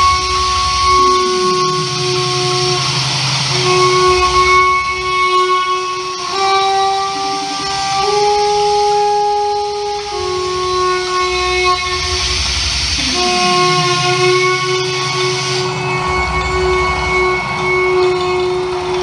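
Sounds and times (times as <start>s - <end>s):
drone music held tones: 0.0s - 19.0s
hiss: 0.0s - 19.0s.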